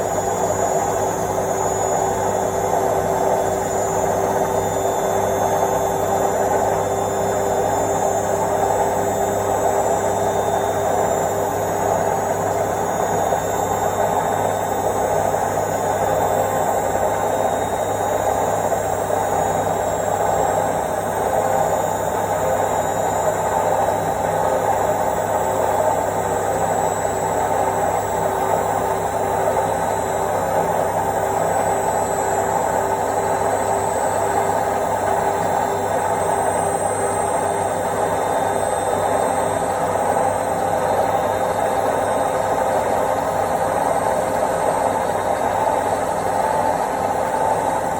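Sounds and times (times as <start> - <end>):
washing machine whirring hum: 0.0 - 47.9.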